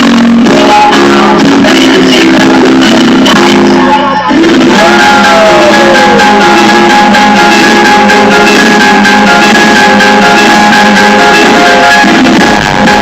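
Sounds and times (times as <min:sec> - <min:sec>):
loud music through car speakers: 0:00.0 - 0:13.0
steady drums: 0:00.0 - 0:13.0.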